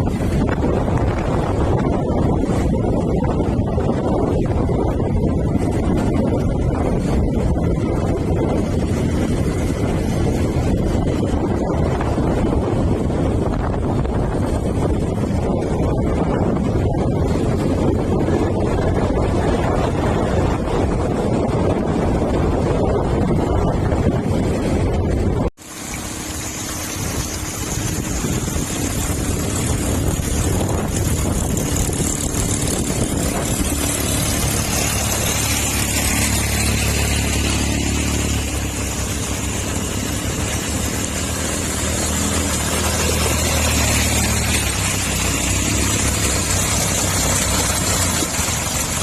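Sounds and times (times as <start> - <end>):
engine running steadily: 0.0 - 49.0
wind noise on microphone: 0.0 - 49.0.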